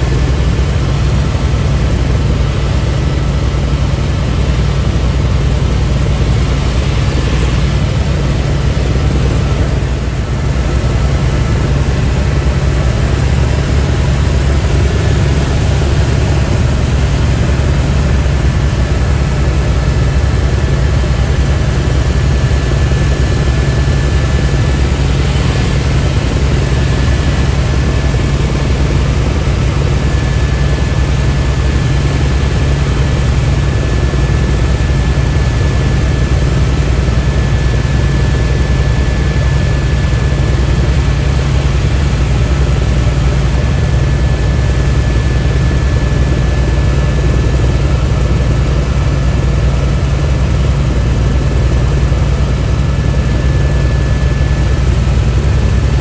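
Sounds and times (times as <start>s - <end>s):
helicopter rotor and engine drone: 0.0s - 56.0s
high whine: 0.0s - 56.0s.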